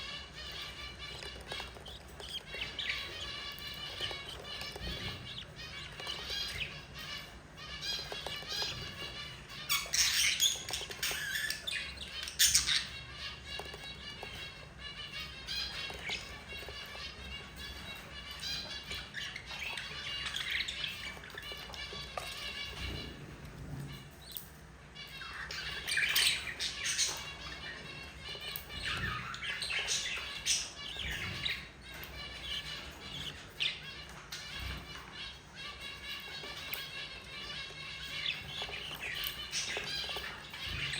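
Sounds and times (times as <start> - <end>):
chicks chirping and squawking: 0.0 - 40.9.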